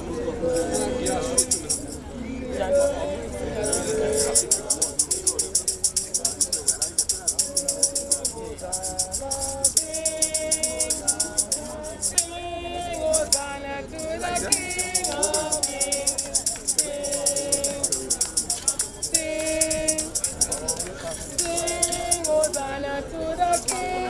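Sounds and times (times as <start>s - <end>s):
group singing a hymn: 0.0s - 24.0s
shaker rhythm: 0.4s - 24.0s.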